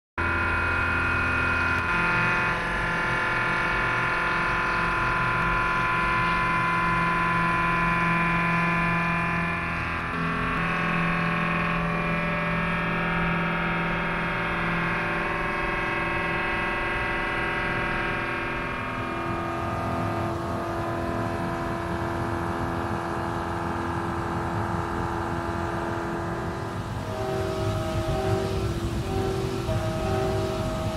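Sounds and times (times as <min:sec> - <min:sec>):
milling machine whine: 0:00.2 - 0:30.9.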